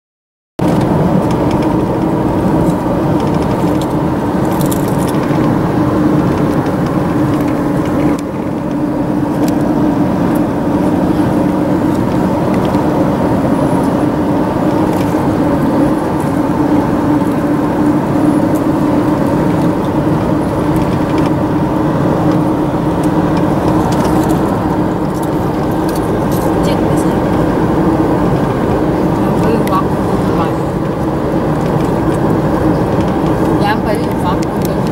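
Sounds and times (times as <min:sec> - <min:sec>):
car road and engine noise: 0:00.6 - 0:34.9.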